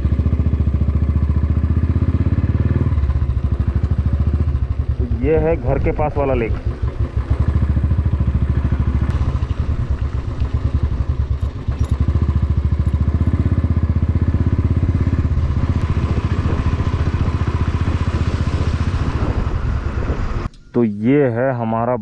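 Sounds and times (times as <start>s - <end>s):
motorcycle engine thumping: 0.0s - 20.6s.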